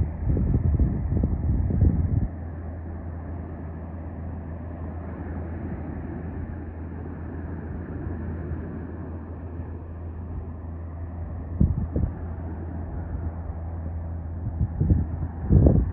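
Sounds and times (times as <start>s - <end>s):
propeller plane engine drone: 0.0s - 15.9s
wind buffeting microphone: 0.0s - 15.9s.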